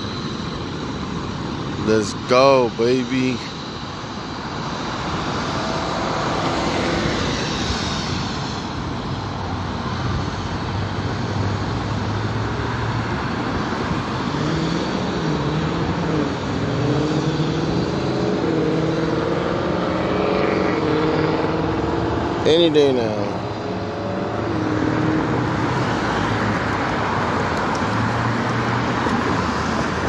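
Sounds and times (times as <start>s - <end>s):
helicopter engine and rotors: 0.0s - 30.0s
passing street traffic: 0.0s - 30.0s
vehicle engine rising and falling: 0.0s - 30.0s.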